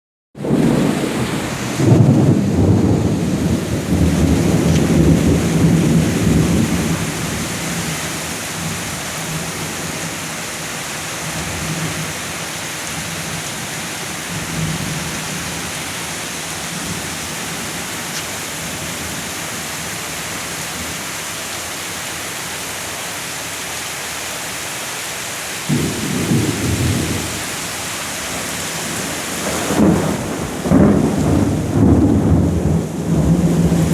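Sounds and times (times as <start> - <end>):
thunder rumbling: 0.4 - 10.3, 11.2 - 21.0, 25.7 - 33.9
steady rain falling: 0.4 - 33.9.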